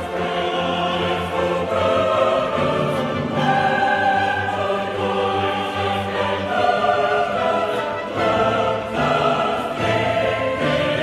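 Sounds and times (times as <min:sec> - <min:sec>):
choir singing sustained chords: 0:00.0 - 0:11.0.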